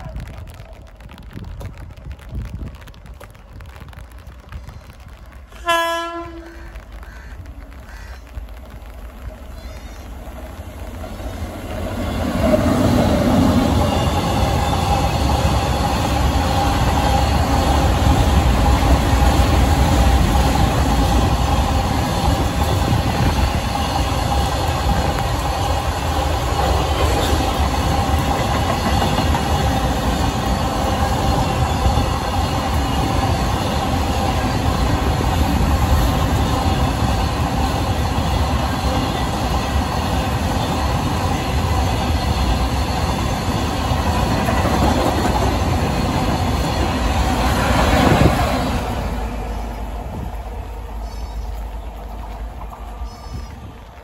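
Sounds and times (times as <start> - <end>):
clickety-clack over rail joints: 0.0 - 54.0
train wheels rumbling on rail: 0.0 - 54.0.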